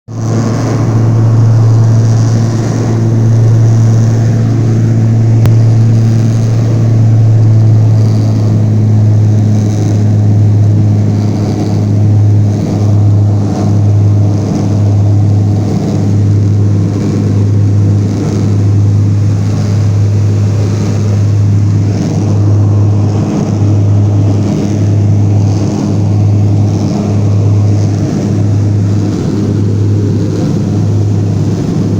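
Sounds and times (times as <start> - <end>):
motor humming: 0.2 - 31.9.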